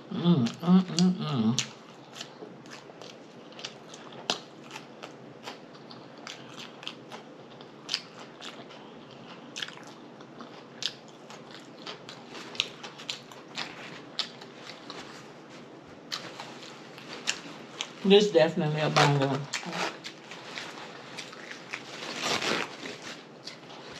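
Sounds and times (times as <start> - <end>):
person chewing food: 0.5 - 18.0, 19.4 - 23.9.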